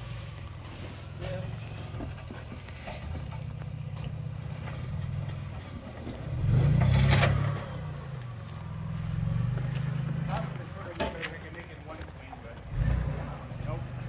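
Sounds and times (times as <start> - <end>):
engine running and revving: 0.0 - 10.9, 12.6 - 14.0.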